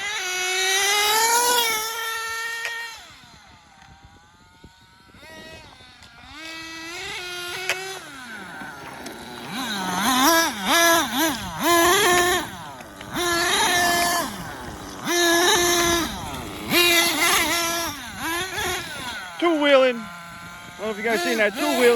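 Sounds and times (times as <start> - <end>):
small nitro engine revving: 0.0 - 21.9.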